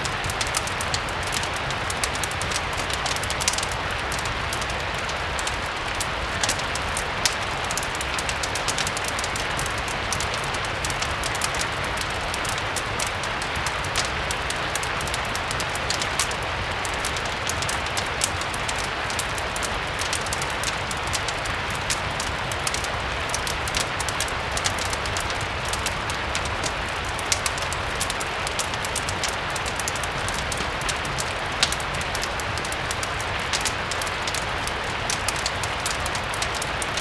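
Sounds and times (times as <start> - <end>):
rain hiss: 0.0 - 37.0
wood fire crackling: 0.0 - 37.0.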